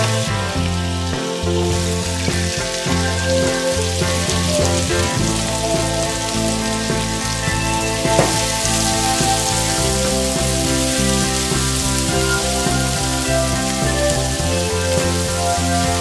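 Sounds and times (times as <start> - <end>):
instrumental background music: 0.0 - 16.0
onions sizzling in frying pan: 0.1 - 16.0.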